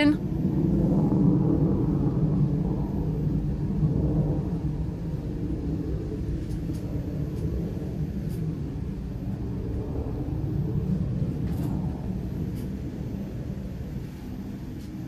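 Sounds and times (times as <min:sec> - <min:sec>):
distant rocket engine roar: 0:00.0 - 0:15.0.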